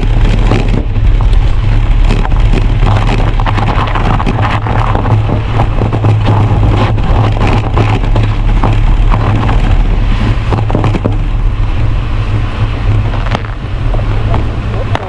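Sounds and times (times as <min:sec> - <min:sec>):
crackles: 0:00.0 - 0:15.0
wind buffeting microphone: 0:00.0 - 0:15.0.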